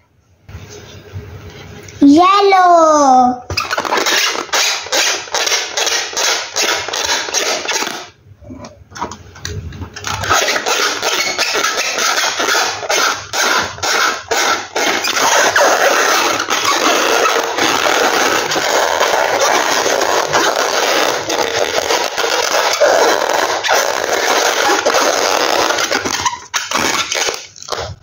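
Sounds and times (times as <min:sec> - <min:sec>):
rubbery balloon squeaks: 0:03.5 - 0:08.6, 0:10.0 - 0:28.0
hands scraping balloon: 0:03.5 - 0:08.7, 0:09.9 - 0:28.0.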